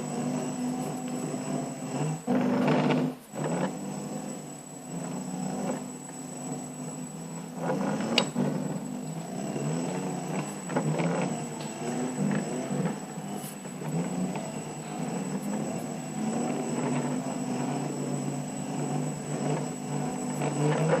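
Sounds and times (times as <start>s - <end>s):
engine running with wavering pitch: 0.0s - 21.0s
faint high-pitched whine: 0.0s - 21.0s.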